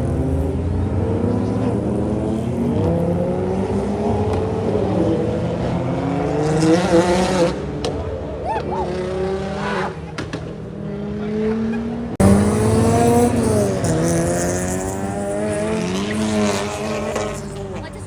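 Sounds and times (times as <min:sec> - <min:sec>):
cars driving past revving: 0:00.0 - 0:18.0.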